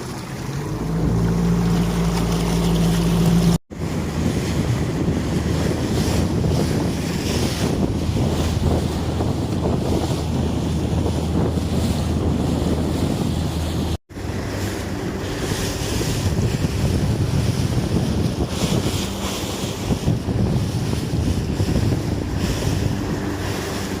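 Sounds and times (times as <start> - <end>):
boat engine hum: 0.0 - 24.0
wash of water: 0.0 - 24.0
wind buffeting microphone: 0.0 - 24.0.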